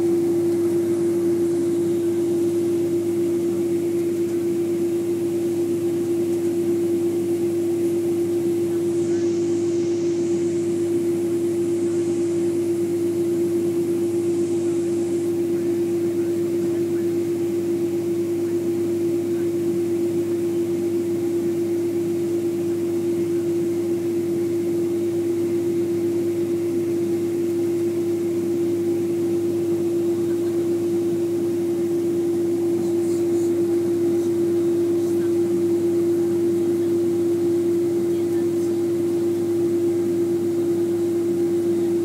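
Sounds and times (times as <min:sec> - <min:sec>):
airplane cabin engine hum: 0:00.0 - 0:42.0.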